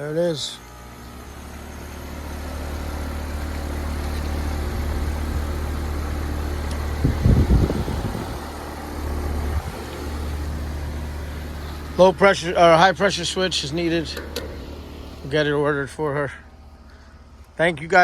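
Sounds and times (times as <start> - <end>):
heat pump humming: 0.0 - 18.0.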